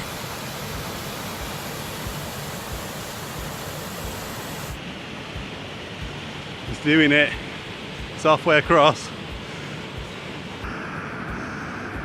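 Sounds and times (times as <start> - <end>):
waterfall rushing hiss: 0.0 - 12.0.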